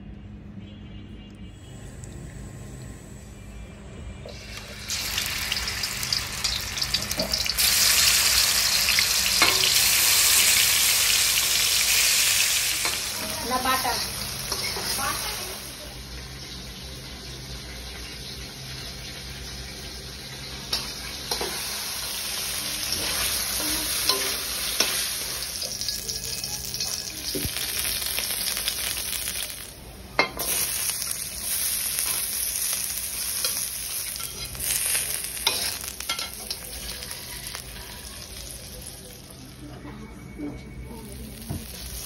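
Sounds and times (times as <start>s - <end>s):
food sizzling in oil: 4.3s - 39.7s, 40.8s - 42.0s.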